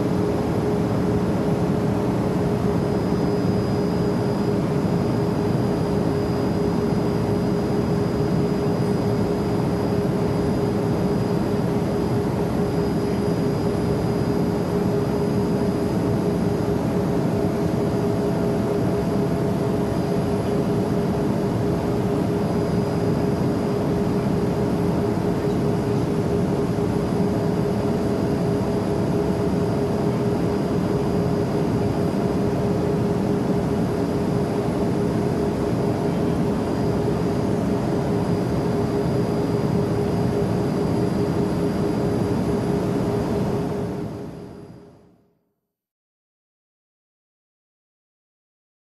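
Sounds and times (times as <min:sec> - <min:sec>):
jet cabin noise: 0:00.0 - 0:44.7.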